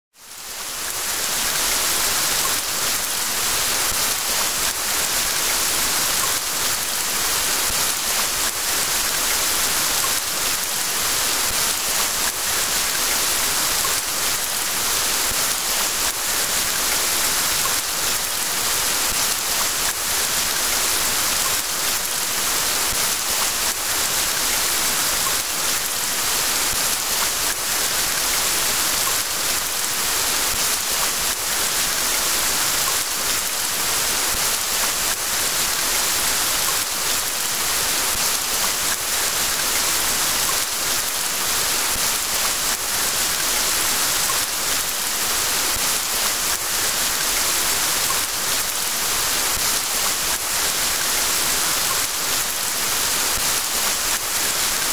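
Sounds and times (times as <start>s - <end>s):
steady rain: 0.1s - 54.9s.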